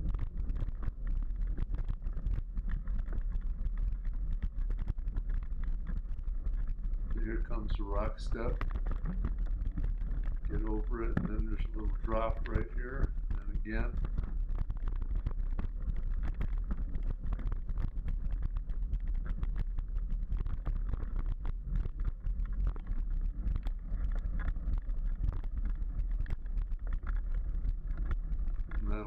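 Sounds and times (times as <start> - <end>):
bike clicks and rattles: 0.0 - 29.0
wind rumble on microphone: 0.0 - 29.0.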